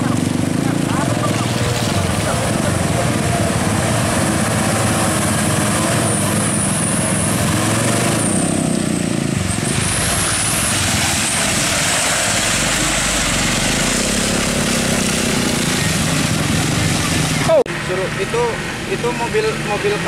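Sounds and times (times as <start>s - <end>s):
truck diesel engine under load: 0.0s - 20.0s.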